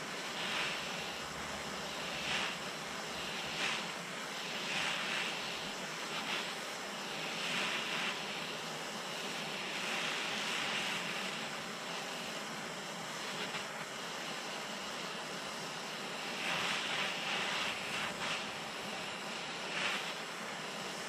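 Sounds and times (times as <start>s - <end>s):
propane torch flame hissing: 0.0s - 21.0s.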